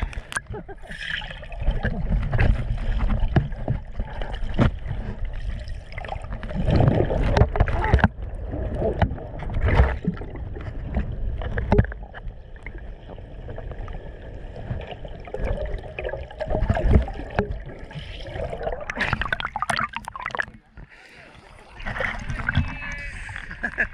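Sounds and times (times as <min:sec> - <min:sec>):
water sloshing underwater: 0:00.0 - 0:23.9.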